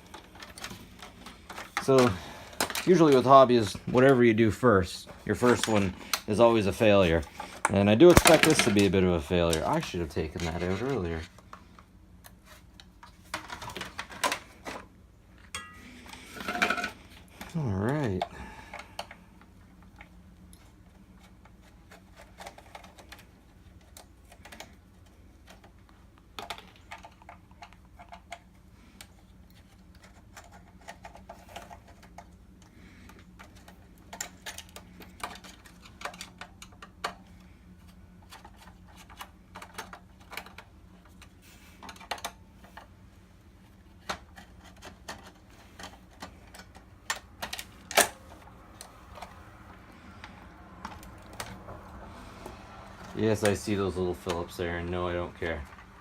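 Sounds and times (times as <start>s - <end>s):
faint steady hum: 0.0s - 56.0s
plastic and metal parts clattering: 0.0s - 56.0s.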